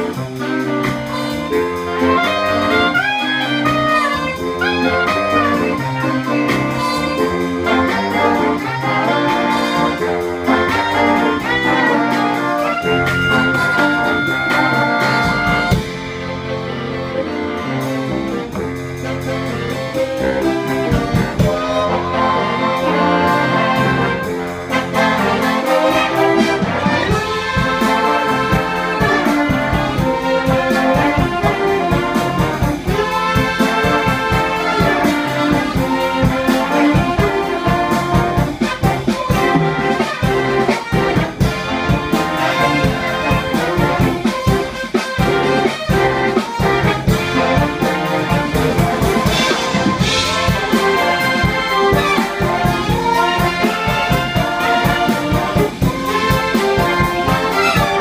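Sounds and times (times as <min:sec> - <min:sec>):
big band playing jazz: 0:00.0 - 0:58.0.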